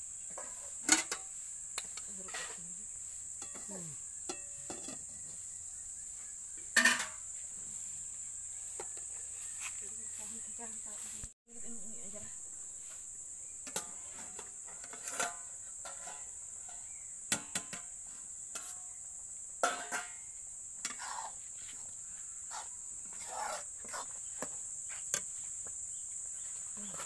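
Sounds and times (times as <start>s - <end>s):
crickets droning: 0.0s - 27.0s.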